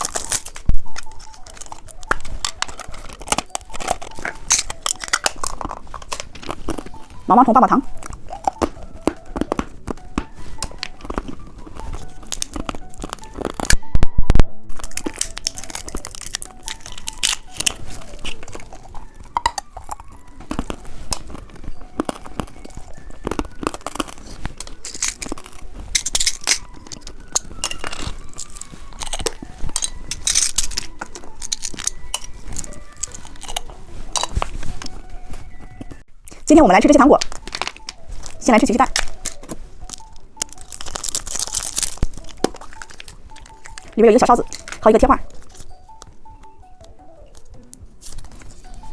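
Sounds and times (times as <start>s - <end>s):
plastic wrappers crinkling: 0.0s - 13.9s, 14.6s - 48.9s
faint background music: 0.0s - 48.9s
hard candy crunching: 0.0s - 48.9s.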